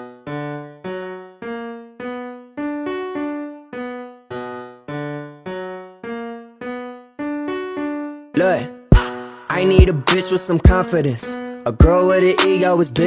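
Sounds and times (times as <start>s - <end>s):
slow keyboard melody: 0.0s - 13.0s.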